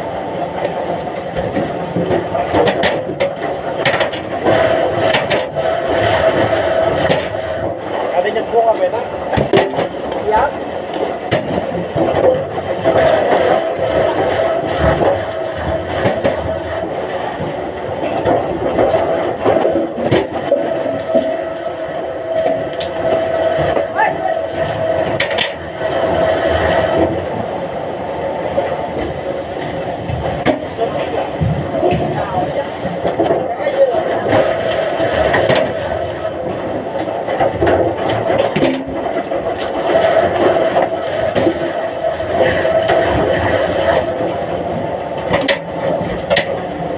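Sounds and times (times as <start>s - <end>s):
machinery knocks and clatter: 0.0s - 46.9s
wood-mill machinery humming: 0.0s - 46.9s.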